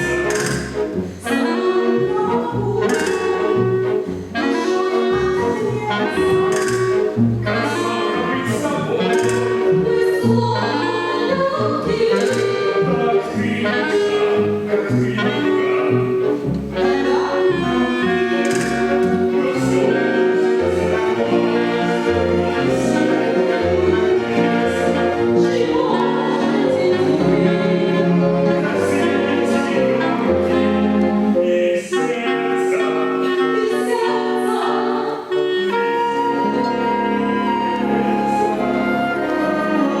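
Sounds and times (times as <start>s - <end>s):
orchestral bowed strings: 0.0s - 40.0s.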